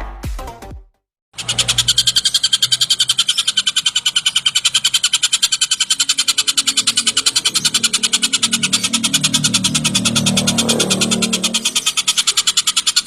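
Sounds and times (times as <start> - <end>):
kingfisher rapid chattering call: 1.4 - 13.0.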